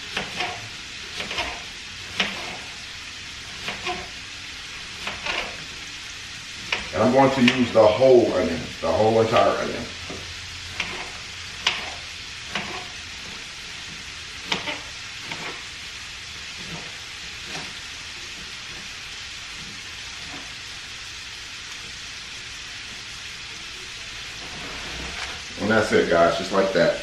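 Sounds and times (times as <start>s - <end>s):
steak sizzling in a pan: 0.0s - 27.0s.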